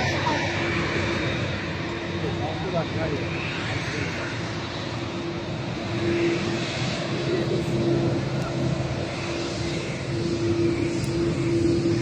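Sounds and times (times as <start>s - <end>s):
jet engines humming: 0.0s - 12.0s.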